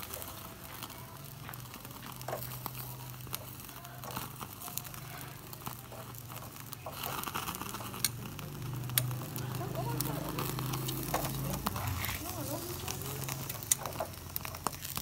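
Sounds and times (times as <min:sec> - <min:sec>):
crinkling and tearing: 0:02.2 - 0:15.0.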